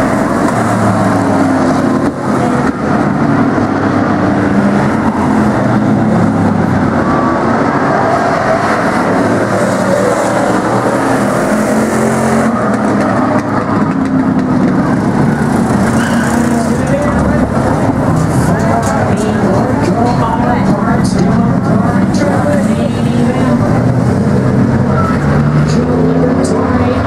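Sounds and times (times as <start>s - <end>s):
race car engines droning: 0.0s - 27.0s.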